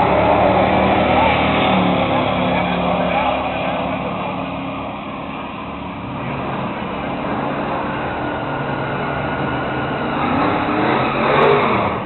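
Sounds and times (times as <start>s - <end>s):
drag racing car engines: 0.0s - 12.0s.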